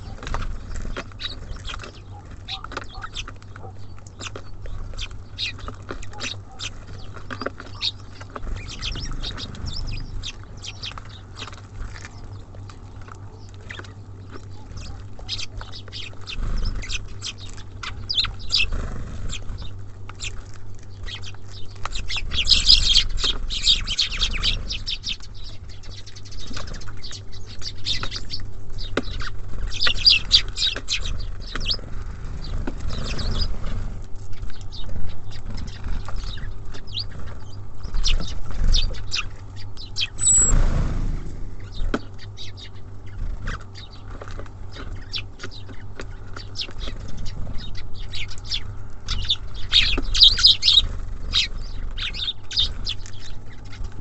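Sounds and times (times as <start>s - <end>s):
songbirds chirping: 0.0s - 54.0s
steady low hum: 0.0s - 54.0s.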